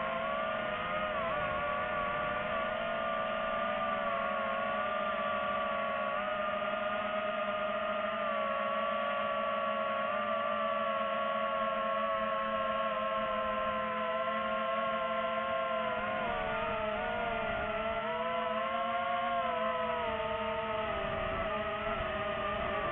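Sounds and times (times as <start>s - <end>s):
drone propellers whining: 0.0s - 22.9s.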